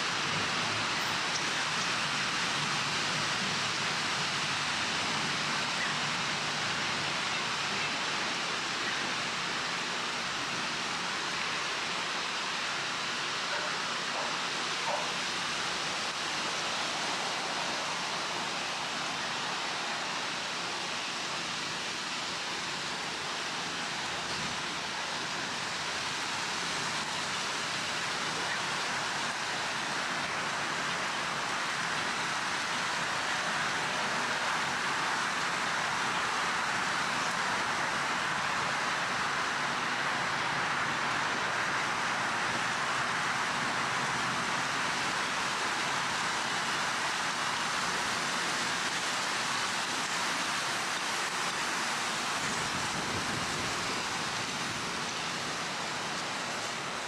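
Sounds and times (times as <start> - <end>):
breeze rustling leaves: 0.0 - 57.0.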